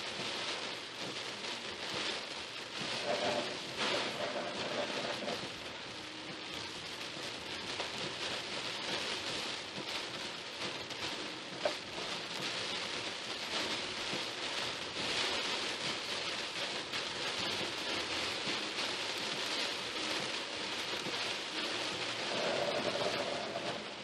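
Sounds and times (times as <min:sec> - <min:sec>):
rain beating on a car: 0:00.0 - 0:24.0.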